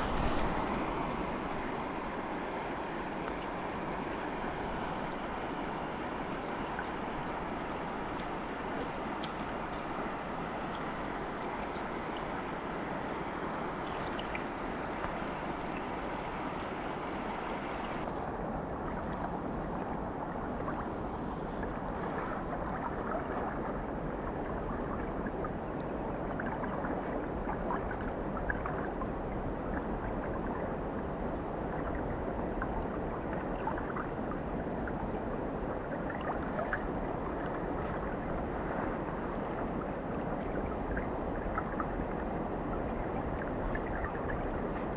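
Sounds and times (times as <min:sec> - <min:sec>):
stream water rushing and gurgling: 0:00.0 - 0:44.9.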